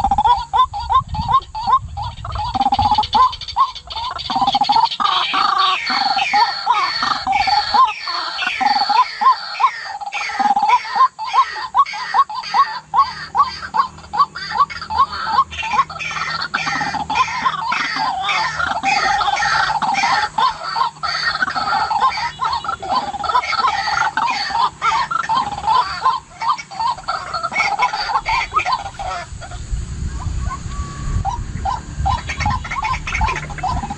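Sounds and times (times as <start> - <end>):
waterhen croaking calls: 0.0 - 33.9.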